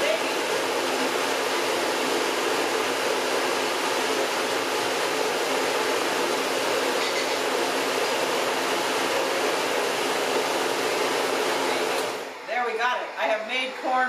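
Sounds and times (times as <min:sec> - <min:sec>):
blender motor whirring: 0:00.0 - 0:12.5.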